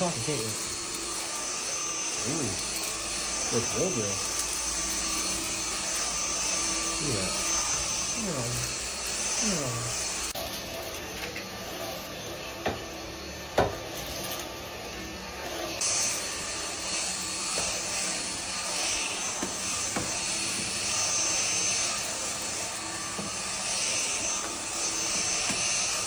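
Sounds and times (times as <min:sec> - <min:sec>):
stick vacuum running: 0:00.0 - 0:26.0.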